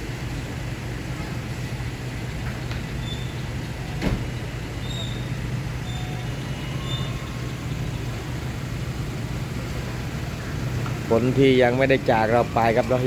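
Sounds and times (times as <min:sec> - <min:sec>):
street traffic: 0:00.0 - 0:13.0
vehicle engine humming: 0:00.0 - 0:13.0.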